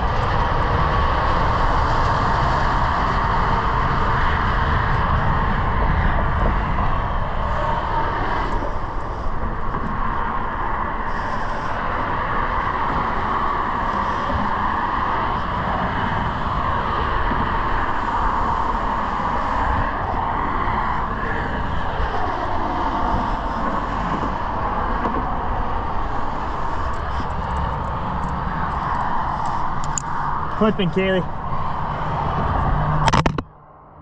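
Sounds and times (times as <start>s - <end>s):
heavy highway traffic: 0.0s - 34.0s.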